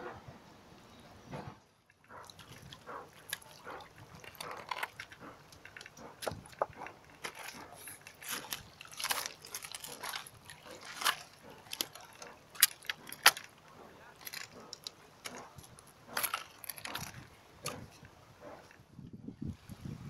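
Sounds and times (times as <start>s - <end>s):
crunches and clicks: 1.9s - 18.8s.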